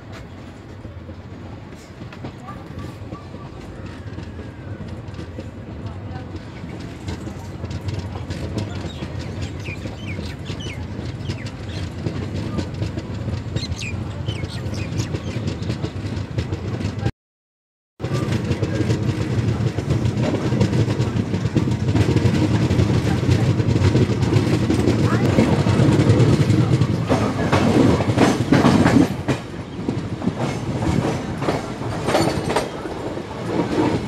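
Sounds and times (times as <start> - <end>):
train rumble with wheel clatter: 0.0 - 17.1, 18.0 - 34.0.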